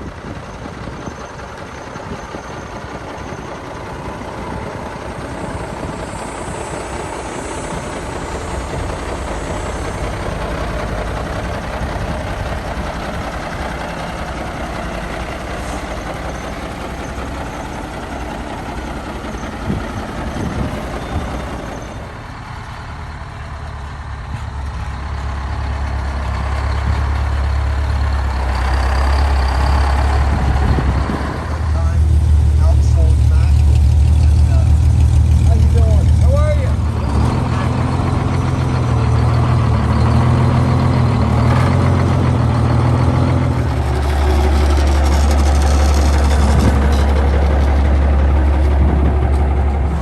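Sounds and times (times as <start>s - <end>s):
diesel truck engines rumbling: 0.0s - 50.0s.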